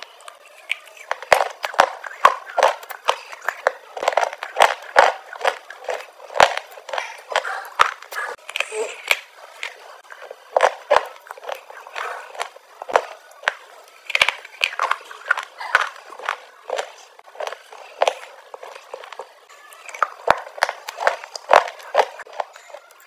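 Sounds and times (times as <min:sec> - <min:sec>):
crunching hard chalky blocks: 0:00.0 - 0:23.0.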